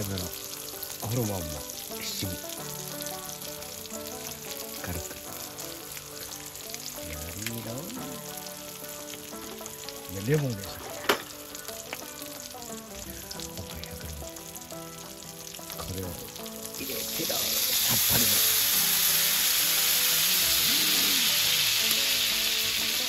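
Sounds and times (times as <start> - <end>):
liquid poured into hot pan: 0.0 - 13.6, 14.2 - 23.0
meat sizzling in a skillet: 0.0 - 23.0.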